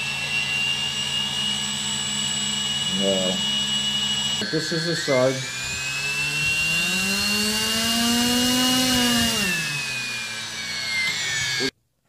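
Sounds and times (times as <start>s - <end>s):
drone motor whining: 0.0s - 11.8s.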